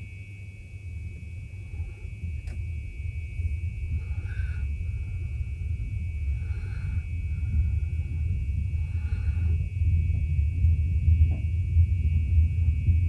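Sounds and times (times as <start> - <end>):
steady high whine: 0.0 - 13.0
train rumbling: 1.1 - 13.0.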